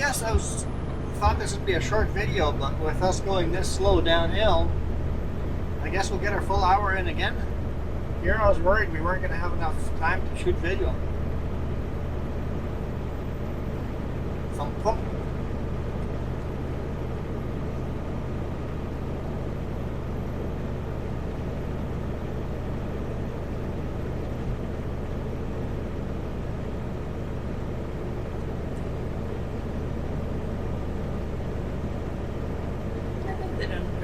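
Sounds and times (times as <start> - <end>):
road noise: 0.0 - 20.4, 21.2 - 34.0
truck diesel engine drone: 0.0 - 34.0.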